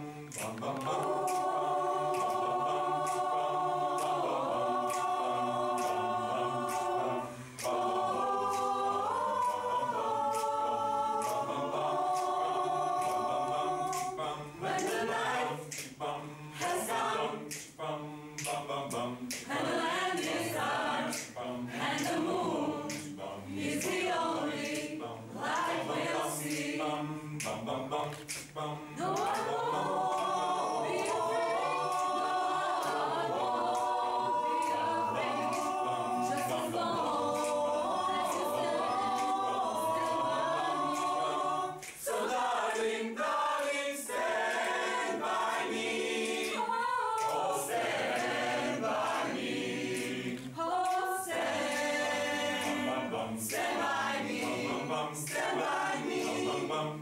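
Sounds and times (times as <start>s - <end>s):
mixed choir singing a cappella: 0.0s - 57.0s.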